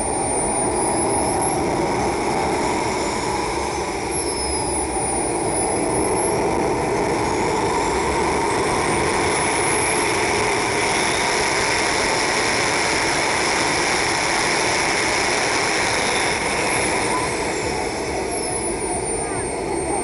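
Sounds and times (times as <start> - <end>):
high whine: 0.0 - 20.0
jet engine rushing: 0.0 - 20.0.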